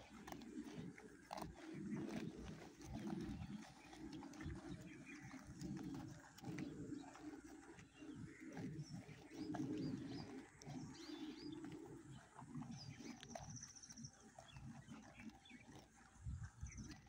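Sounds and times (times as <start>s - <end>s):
small birds chirping: 0.0s - 17.0s
water buffalo tearing and chewing grass: 0.0s - 17.0s.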